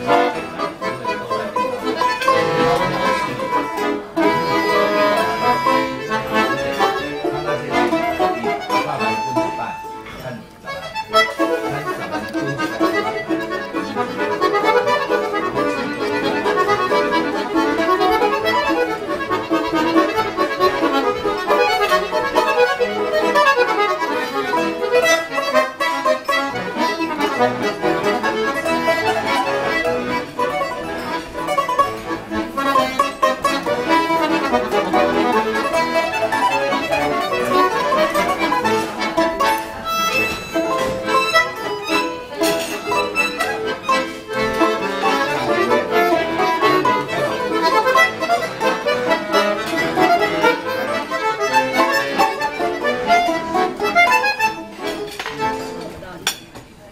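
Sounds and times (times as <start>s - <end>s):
accordions playing folk tune: 0.0s - 56.2s
plucked string instrument: 0.0s - 56.9s.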